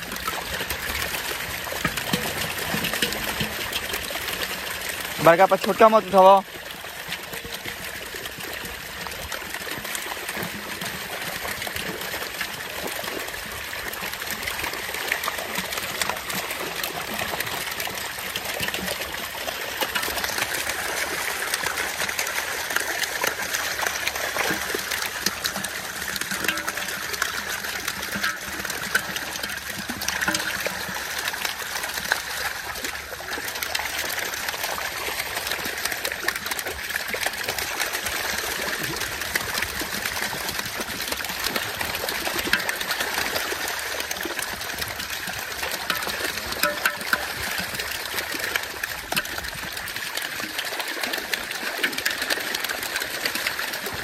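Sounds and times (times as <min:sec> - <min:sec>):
fish thrashing and splashing in net: 0:00.0 - 0:54.0
hands scooping fish into pot: 0:00.0 - 0:54.0.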